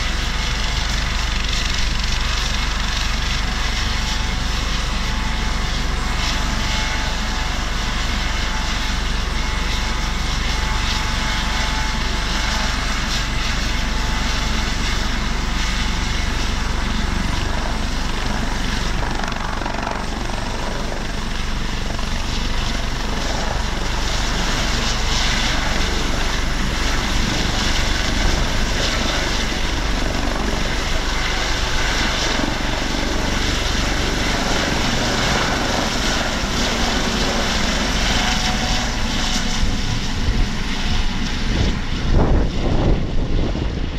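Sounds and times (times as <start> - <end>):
helicopter rotors running: 0.0 - 43.9.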